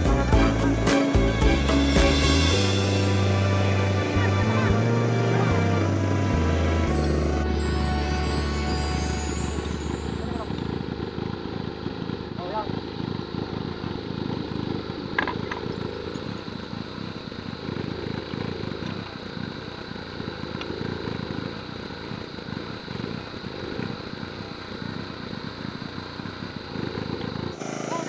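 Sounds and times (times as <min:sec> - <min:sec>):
motor running: 0:00.0 - 0:28.0.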